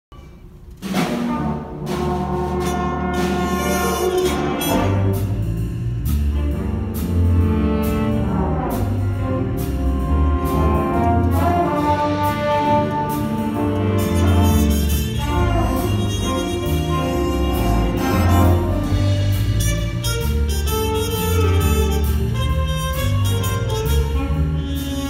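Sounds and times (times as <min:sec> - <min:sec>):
drum and cymbal hits: 0:00.2 - 0:25.0
jazz big band playing: 0:00.2 - 0:25.0
low bass line: 0:01.9 - 0:25.0.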